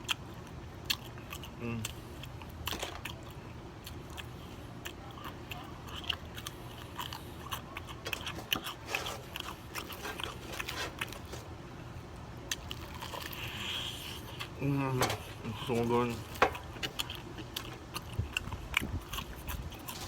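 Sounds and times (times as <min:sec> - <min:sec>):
chewing crispy fried chicken: 0:00.0 - 0:20.0.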